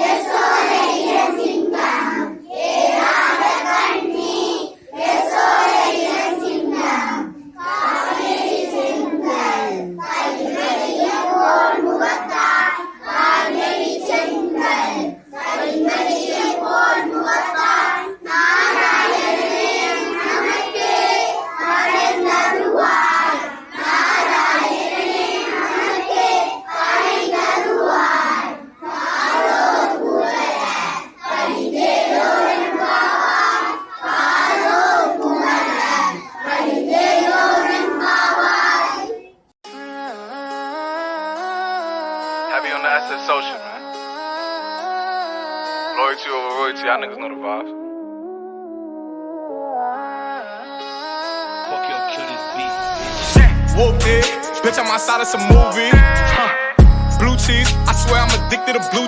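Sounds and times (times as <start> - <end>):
children singing in unison: 0.0 - 47.7, 49.5 - 59.0.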